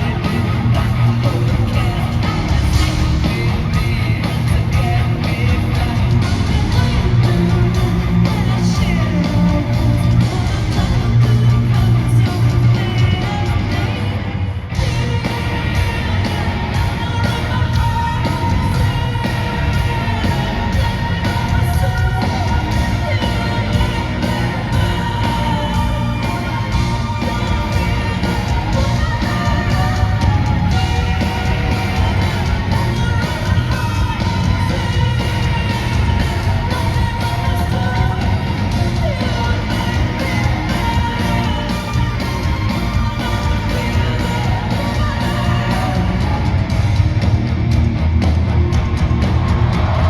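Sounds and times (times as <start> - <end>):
person singing and yelling: 0.0 - 46.9
live rock band with orchestra: 0.0 - 50.0.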